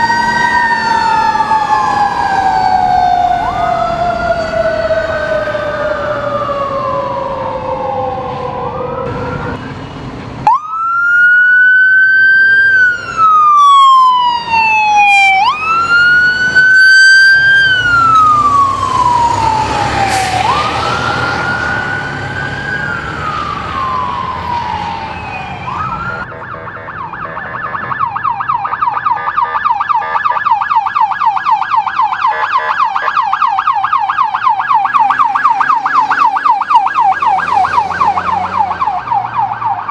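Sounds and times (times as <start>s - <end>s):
lower siren tone: 0.0s - 9.7s, 10.5s - 39.9s
emergency vehicle siren: 0.0s - 39.9s.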